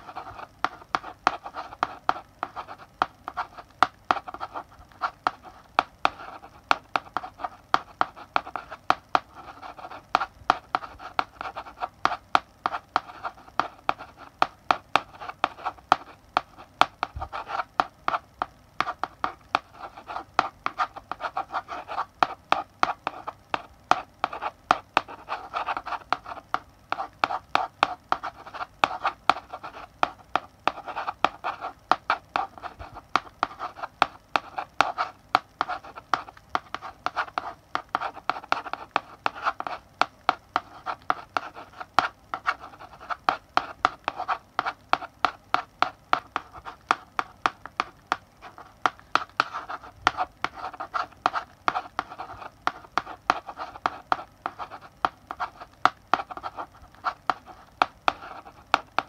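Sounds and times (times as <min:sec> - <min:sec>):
chalk writing on blackboard: 0:00.0 - 0:59.0.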